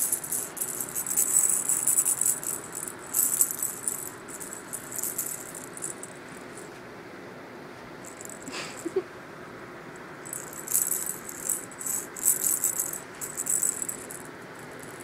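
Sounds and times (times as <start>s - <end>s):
cat toy rattling and jingling: 0.0s - 6.6s, 8.1s - 8.8s, 10.3s - 15.0s.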